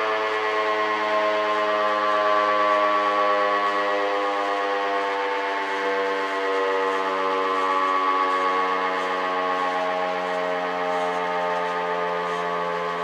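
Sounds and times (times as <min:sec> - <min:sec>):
warning siren wailing: 0:00.0 - 0:13.0.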